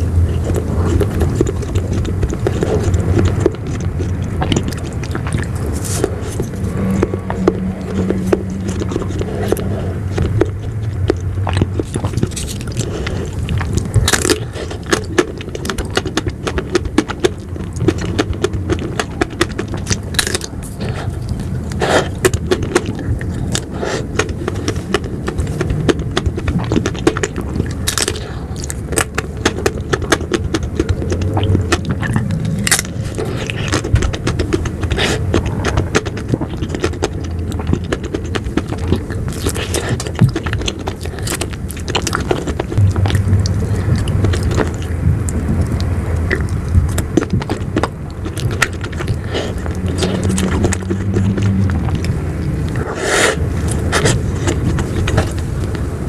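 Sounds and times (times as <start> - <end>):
eating ice cream mouth clicks: 0.0 - 55.9.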